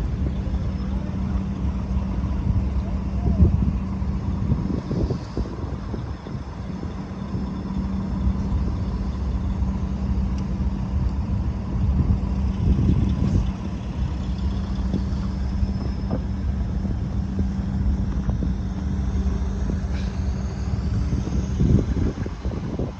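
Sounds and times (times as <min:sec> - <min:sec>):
pickup engine idling: 0:00.0 - 0:22.9.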